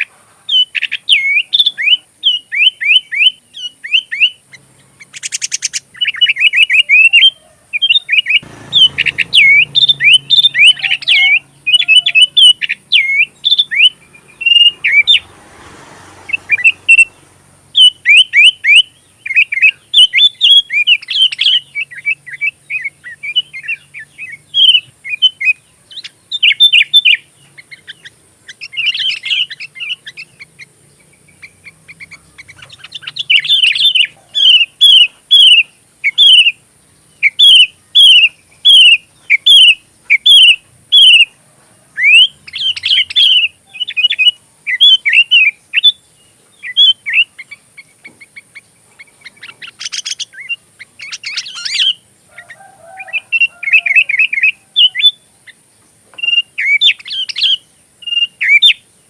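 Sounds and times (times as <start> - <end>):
bird singing chirps and whistles: 0.0 - 15.3, 16.2 - 41.4, 42.0 - 55.6, 56.2 - 58.9.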